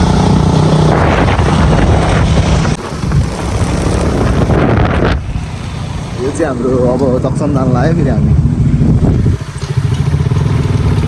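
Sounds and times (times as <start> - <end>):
motorcycle engine at speed: 0.0 - 11.0
wind buffeting microphone: 0.0 - 11.0.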